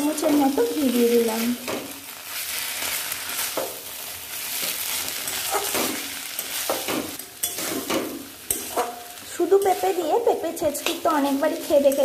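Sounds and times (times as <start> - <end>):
food sizzling in a pan: 0.0 - 12.0
spatula scraping a pan: 1.6 - 12.0.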